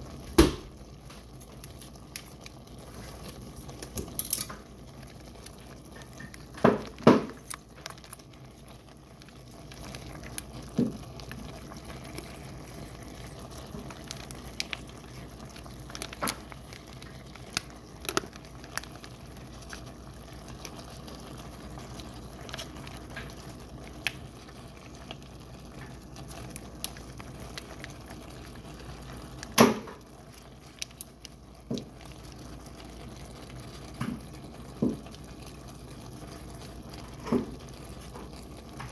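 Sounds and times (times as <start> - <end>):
food bubbling in a skillet: 0.0 - 38.9.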